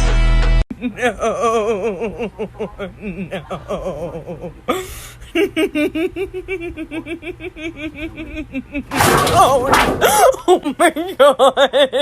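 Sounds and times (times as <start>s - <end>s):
person laughing: 0.7s - 12.0s.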